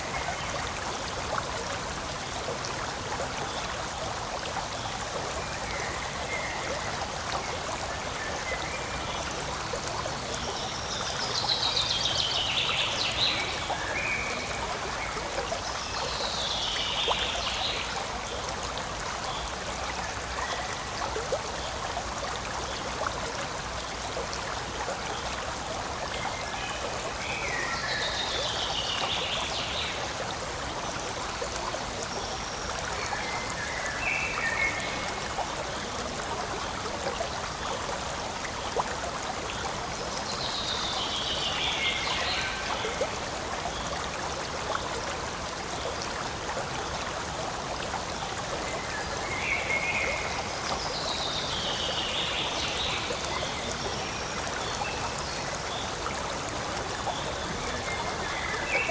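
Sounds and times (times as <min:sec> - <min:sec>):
stream rushing and trickling: 0:00.0 - 0:58.9.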